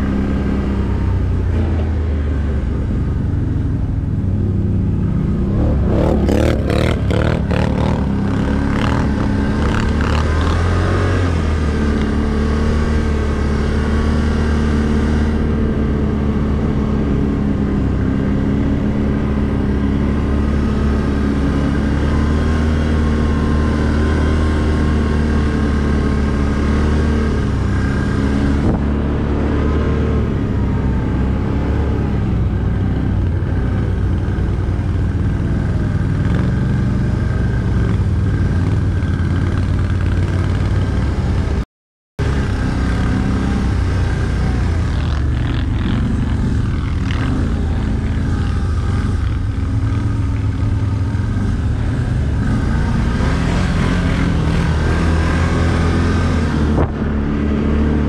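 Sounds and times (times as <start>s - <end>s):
atv engine running: 0.0s - 41.6s, 42.2s - 58.0s.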